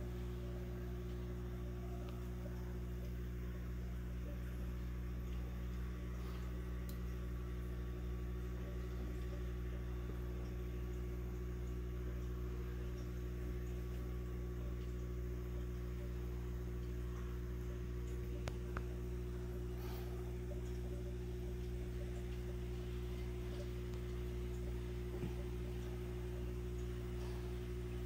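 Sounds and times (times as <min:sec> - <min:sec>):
aquarium pump humming: 0:00.0 - 0:28.0.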